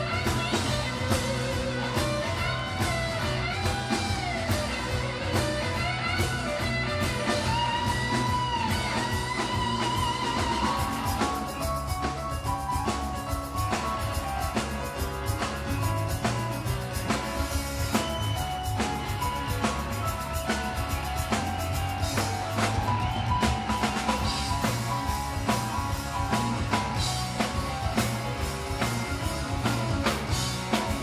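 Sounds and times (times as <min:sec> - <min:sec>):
bass guitar: 0:00.0 - 0:31.0
drums: 0:00.0 - 0:31.0
electric guitar solo: 0:00.0 - 0:31.0.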